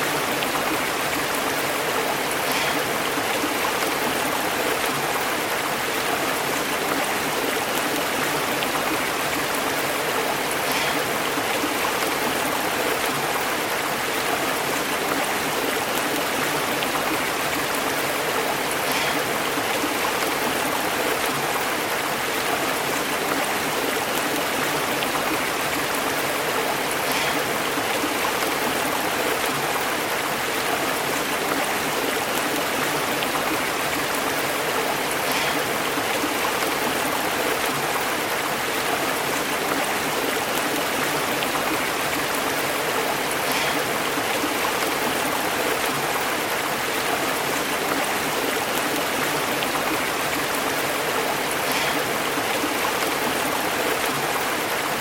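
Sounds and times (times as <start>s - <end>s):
stream burbling over rocks: 0.0s - 55.0s.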